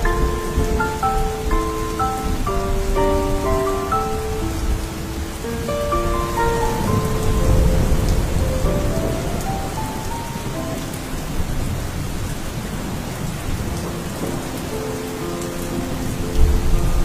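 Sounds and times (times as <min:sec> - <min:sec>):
soft music notes: 0:00.0 - 0:11.7, 0:13.7 - 0:17.0
thunder rumble: 0:00.0 - 0:14.8, 0:15.7 - 0:17.0
steady rain: 0:00.0 - 0:17.0.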